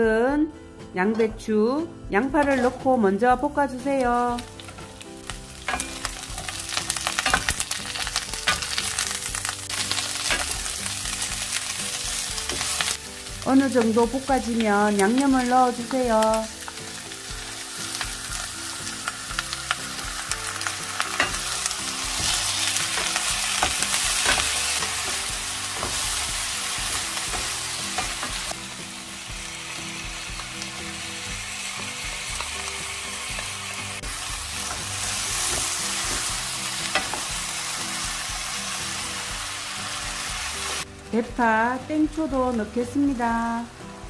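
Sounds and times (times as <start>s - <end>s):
vegetables sizzling in a frying pan: 2.4s - 44.0s.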